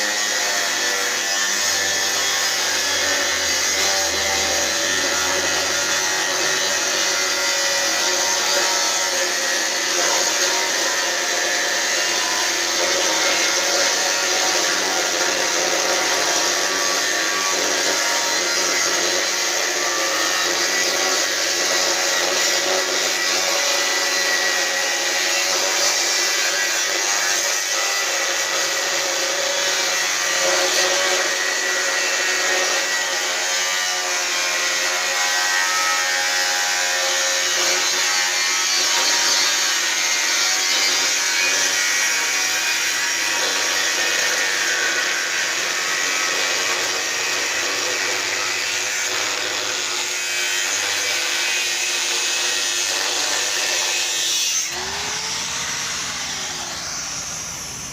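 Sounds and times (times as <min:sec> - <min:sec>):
angle grinder cutting steel: 0:00.0 - 0:57.9.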